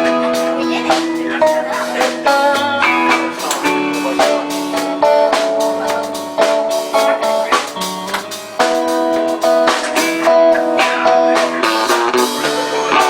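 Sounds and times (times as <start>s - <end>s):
drum kit: 0.0s - 13.0s
guitar notes: 0.0s - 13.0s.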